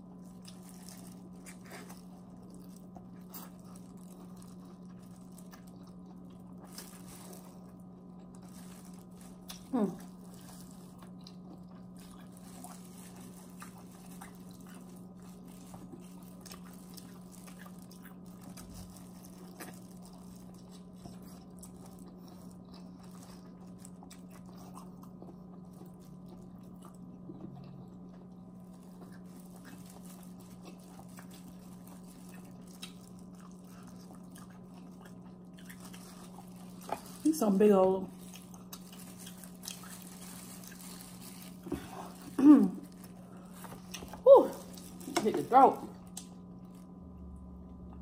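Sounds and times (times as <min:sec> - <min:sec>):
close-up chewing and biting: 0:00.0 - 0:45.2
steady low hum: 0:00.0 - 0:48.0.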